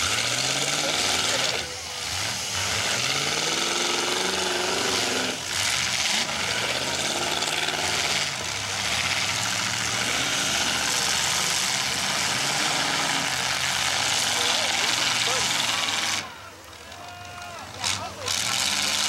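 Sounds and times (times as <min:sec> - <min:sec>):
car engines revving unevenly: 0:00.0 - 0:19.0.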